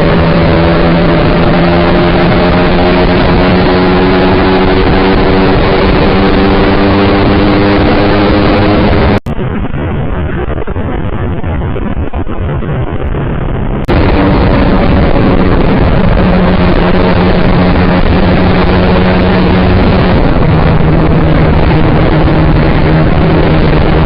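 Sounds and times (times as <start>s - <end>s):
motorcycle engine running: 0.0s - 9.3s, 13.8s - 24.0s
steady rushing noise: 0.0s - 24.0s.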